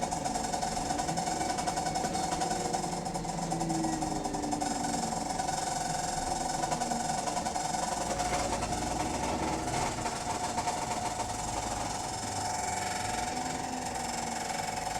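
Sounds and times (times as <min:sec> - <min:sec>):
diesel engine: 0:00.0 - 0:14.9.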